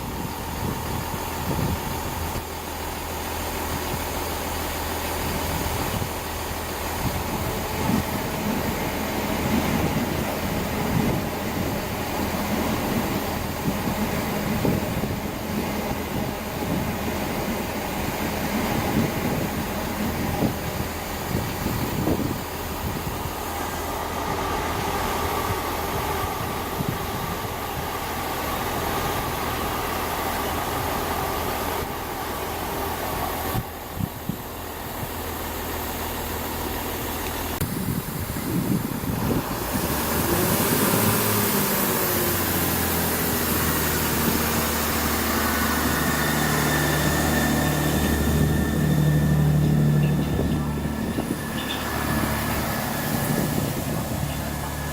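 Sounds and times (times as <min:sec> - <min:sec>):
steady whine: 0:00.0 - 0:54.9
train rumble: 0:00.0 - 0:54.9.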